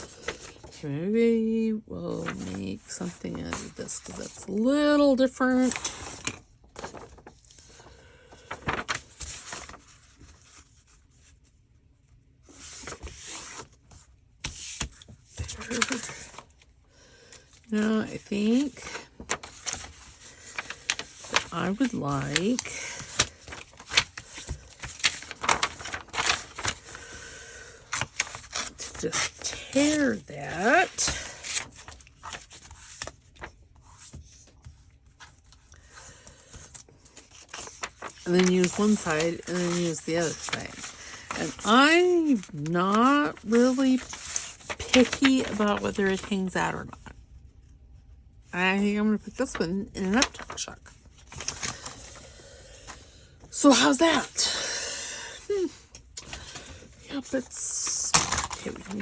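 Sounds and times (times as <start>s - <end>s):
paper rustling: 0.0s - 0.9s, 2.1s - 11.7s, 12.4s - 16.7s, 17.3s - 47.2s, 49.1s - 59.0s.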